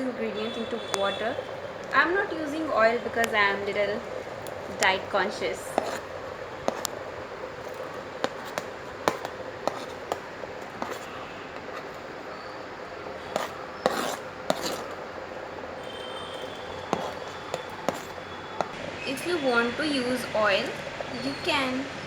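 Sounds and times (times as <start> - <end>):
utensil scraping and tapping: 0.0 - 18.8
steady hiss: 0.0 - 22.0.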